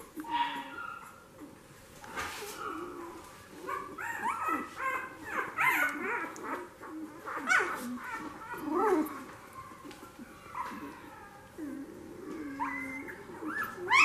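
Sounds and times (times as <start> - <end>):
puppies crying: 0.1 - 1.6, 2.6 - 14.0.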